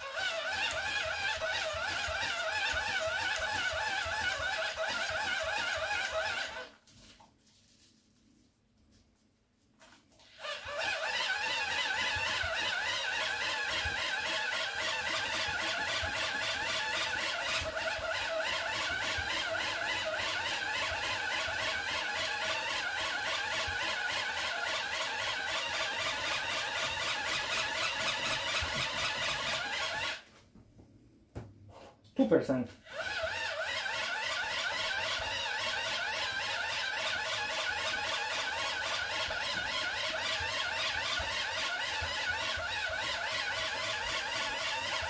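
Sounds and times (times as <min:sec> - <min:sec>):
hand-crank dynamo whirring: 0:00.0 - 0:06.7, 0:10.2 - 0:30.2, 0:32.8 - 0:45.0.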